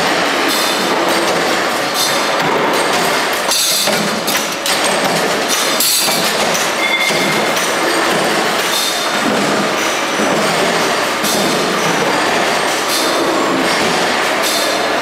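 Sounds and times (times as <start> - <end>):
mechanical punch presses running: 0.1 - 15.0.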